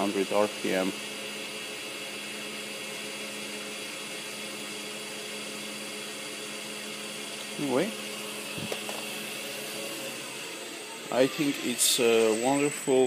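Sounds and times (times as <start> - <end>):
wood lathe motor humming: 0.0 - 13.0.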